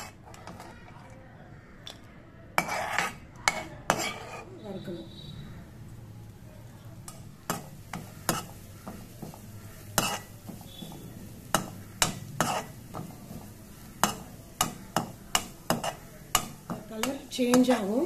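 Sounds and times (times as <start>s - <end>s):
steel spoon scraping a pan: 0.0s - 0.8s, 2.6s - 5.2s, 7.0s - 18.0s
faint sizzle: 0.0s - 18.0s.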